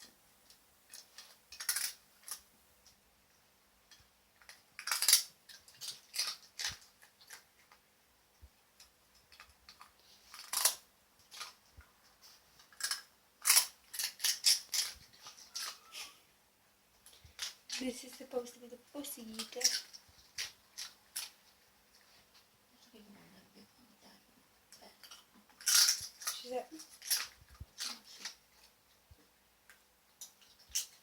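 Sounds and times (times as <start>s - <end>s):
pet crunching dried fish treats: 0.9s - 3.0s, 3.8s - 7.9s, 8.7s - 16.2s, 17.0s - 31.0s.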